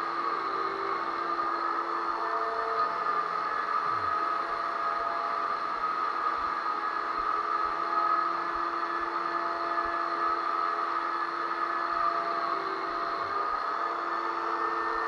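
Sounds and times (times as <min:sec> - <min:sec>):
drywall sander whirring: 0:00.0 - 0:15.0.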